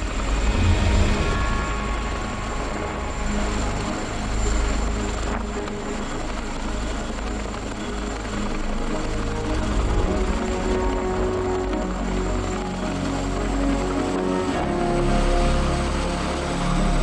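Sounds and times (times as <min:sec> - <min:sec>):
helicopter hovering: 0:00.0 - 0:17.0.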